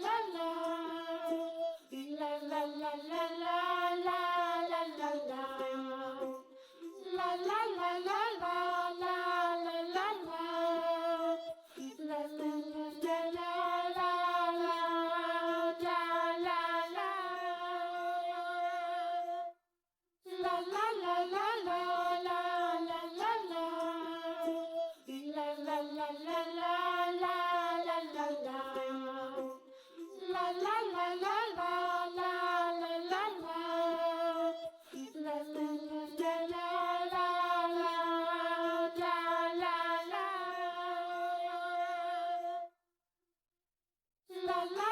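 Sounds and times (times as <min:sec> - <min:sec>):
high child-like voice singing: 0:00.0 - 0:06.4, 0:07.0 - 0:19.4, 0:20.3 - 0:42.6, 0:44.3 - 0:44.9.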